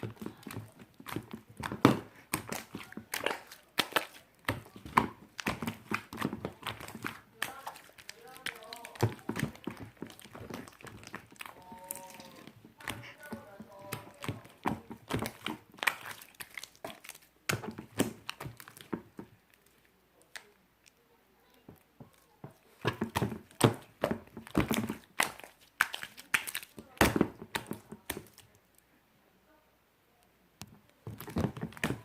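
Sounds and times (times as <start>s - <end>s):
slime squishing with sticky clicks: 0.0s - 28.8s, 30.6s - 32.0s.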